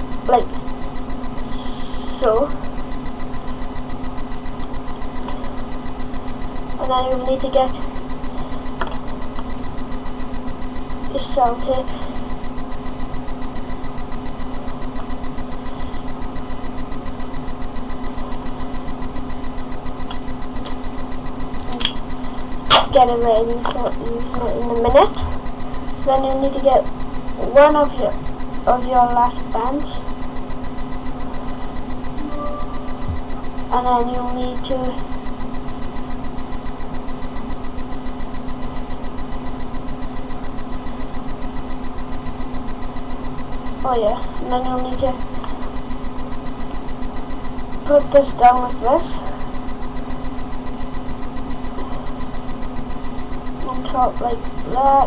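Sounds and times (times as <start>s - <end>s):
pulsing background hum: 0.0s - 55.0s.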